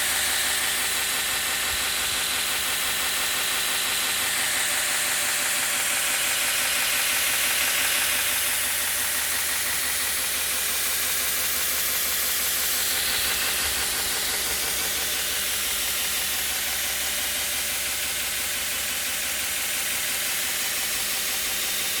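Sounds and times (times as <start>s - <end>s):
belt grinder running: 0.0s - 22.0s.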